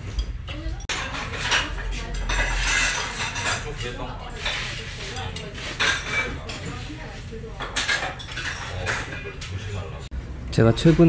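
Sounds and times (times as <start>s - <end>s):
dishes and cutlery clinking: 0.0s - 10.1s.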